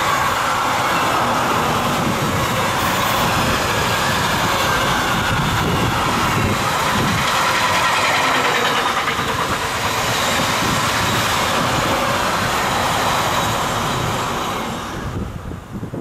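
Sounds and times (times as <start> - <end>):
steel wheels on rails: 0.0 - 16.0.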